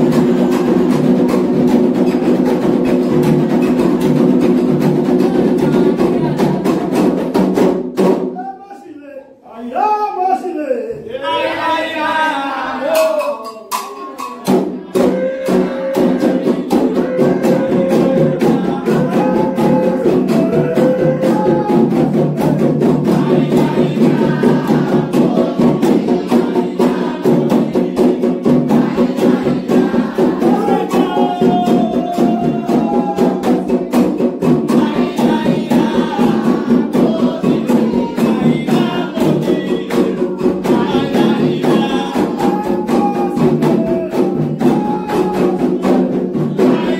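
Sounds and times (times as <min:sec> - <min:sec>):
people singing chants: 0:00.0 - 0:07.6, 0:11.0 - 0:46.9
hand drums playing: 0:00.0 - 0:08.4, 0:12.8 - 0:46.9.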